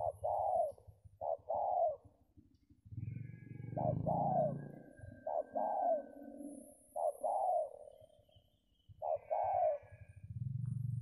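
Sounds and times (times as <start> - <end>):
dove cooing: 0.0 - 2.4, 3.0 - 8.1, 9.0 - 10.9.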